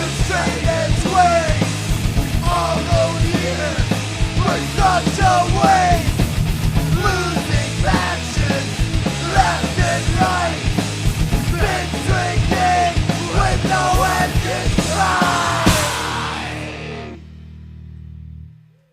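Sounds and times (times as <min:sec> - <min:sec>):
thrash metal band playing: 0:00.0 - 0:17.6.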